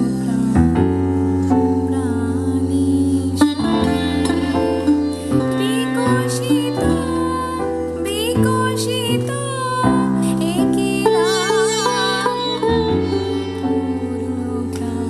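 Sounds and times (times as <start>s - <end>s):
held bass notes: 0.0s - 15.0s
plucked string instrument: 0.0s - 15.0s.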